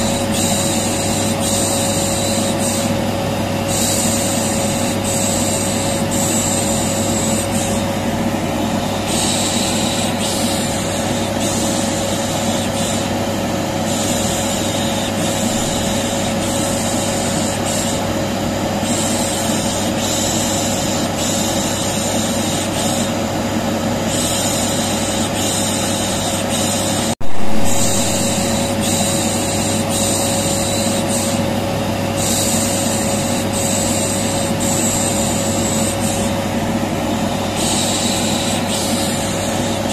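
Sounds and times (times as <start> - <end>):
vacuum cleaner humming: 0.0 - 39.9.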